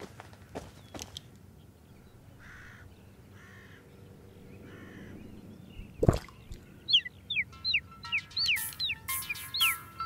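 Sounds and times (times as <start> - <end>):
faint bird calls: 0.2 - 9.8.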